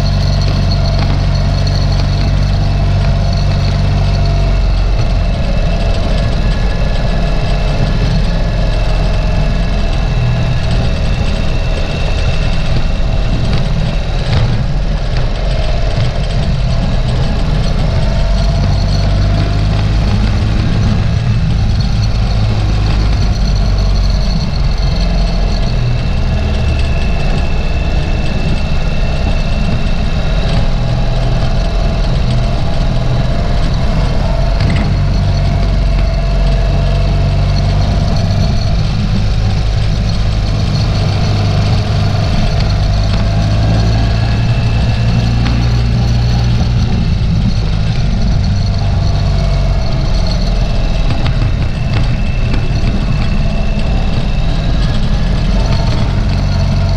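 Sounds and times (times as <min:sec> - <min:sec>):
motorcycle engine rumble: 0:00.0 - 0:56.9.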